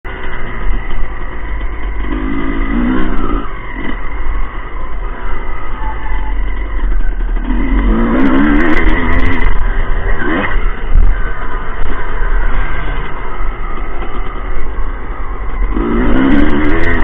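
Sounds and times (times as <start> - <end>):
constant low rumble: 0.0 - 17.0
motocross engines revving: 0.1 - 17.0.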